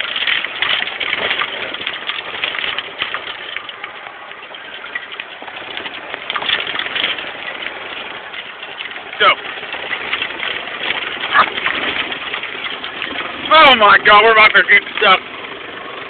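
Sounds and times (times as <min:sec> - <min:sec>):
cart rattling and knocking: 0:00.0 - 0:16.0
golf cart engine: 0:00.0 - 0:16.0.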